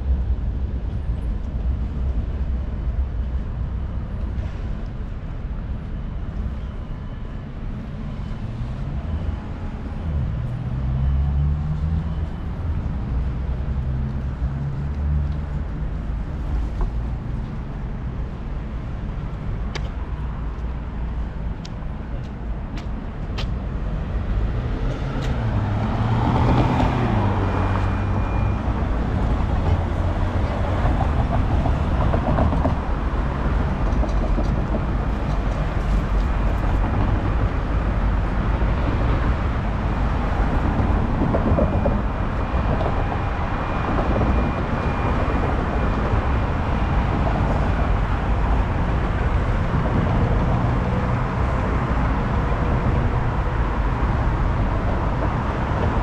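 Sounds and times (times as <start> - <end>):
vehicle engines rumbling: 0.0 - 56.0.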